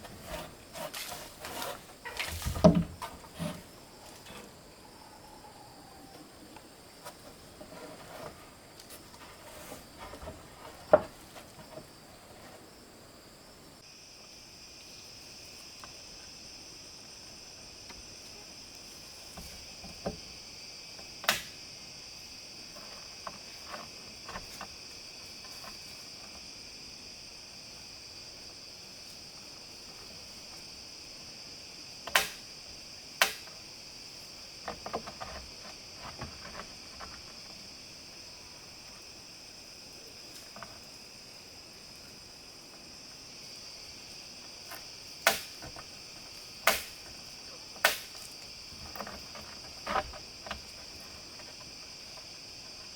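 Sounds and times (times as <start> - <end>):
insect chorus: 0.0 - 52.9.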